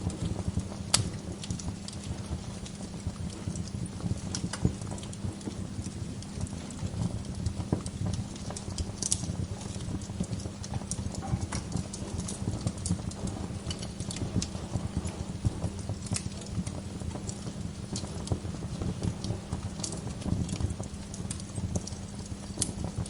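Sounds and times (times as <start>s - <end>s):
fire flames rumbling: 0.0s - 23.0s
logs crackling and popping: 0.0s - 23.0s.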